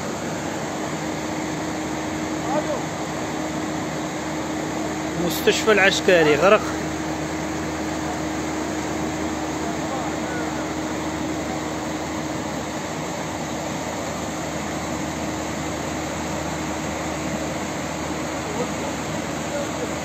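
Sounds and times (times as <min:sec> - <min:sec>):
floodwater rushing: 0:00.0 - 0:20.0
low steady hum: 0:00.0 - 0:20.0.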